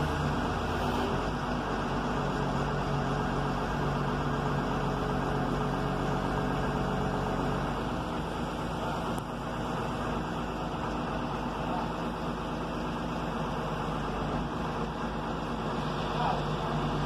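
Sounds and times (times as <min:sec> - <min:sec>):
excavator diesel engine under load: 0:00.0 - 0:17.0.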